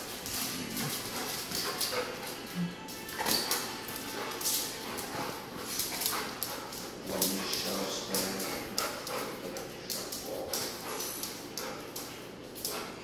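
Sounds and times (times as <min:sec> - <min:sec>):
dog claws clicking on tile: 0:00.0 - 0:13.0.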